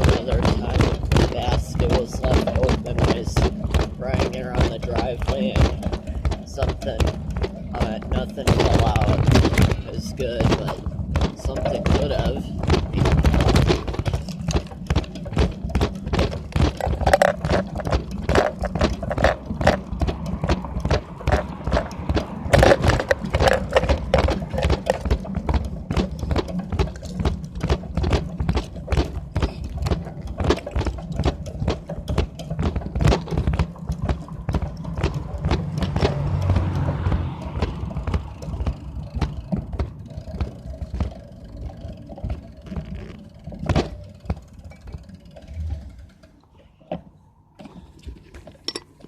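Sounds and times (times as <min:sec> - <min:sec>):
items rattling in bicycle basket: 0:00.0 - 0:49.0
low rumble of rolling and wind: 0:00.0 - 0:49.0.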